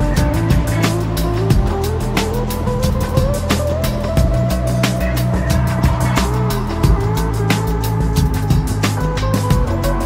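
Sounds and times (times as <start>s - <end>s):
fast beat music with deep bass: 0.0s - 10.0s.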